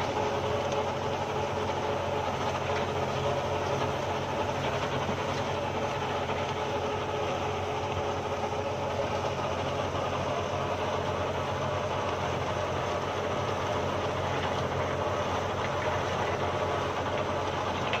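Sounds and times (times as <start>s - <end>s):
tractor engine under load: 0.0s - 18.0s.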